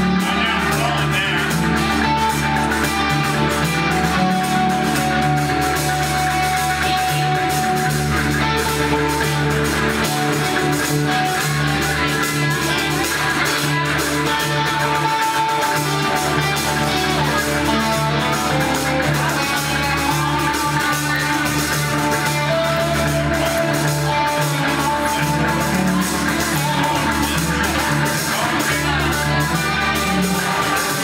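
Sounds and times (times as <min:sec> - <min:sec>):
percussive beat: 0:00.0 - 0:31.0.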